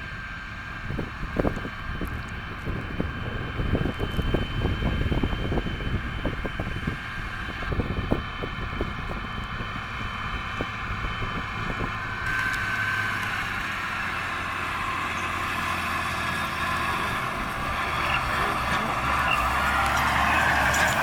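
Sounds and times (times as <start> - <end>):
harvest machinery whining: 0.0 - 21.0
wind buffeting microphone: 0.0 - 21.0.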